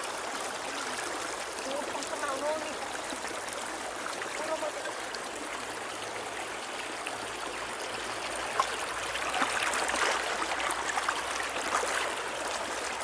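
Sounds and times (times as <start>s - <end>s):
shallow river water running: 0.0s - 13.0s
water splashes and trickles: 0.0s - 13.0s.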